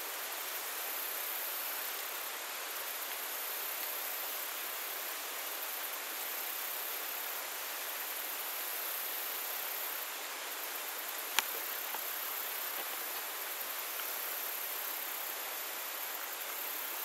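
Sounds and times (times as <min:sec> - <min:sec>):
creek running over stones: 0:01.7 - 0:17.0.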